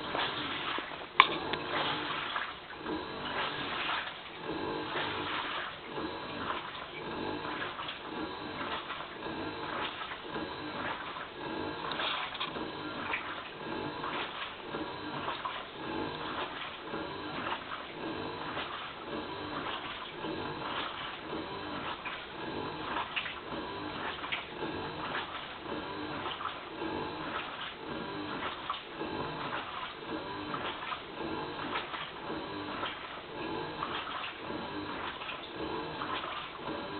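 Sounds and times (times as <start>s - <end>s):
washing machine motor noise: 0.0s - 36.9s
water churning and sloshing: 0.0s - 36.9s.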